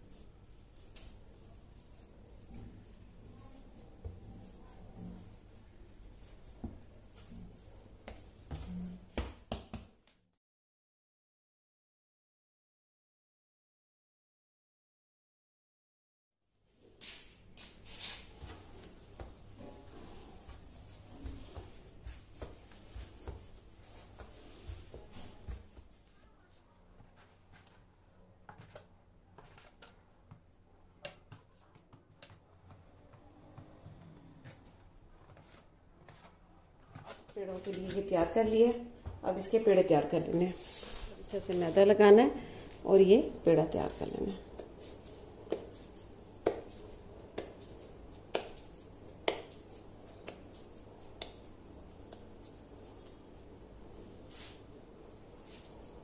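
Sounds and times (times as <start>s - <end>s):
dough being handled: 0.0s - 10.1s, 16.8s - 56.0s.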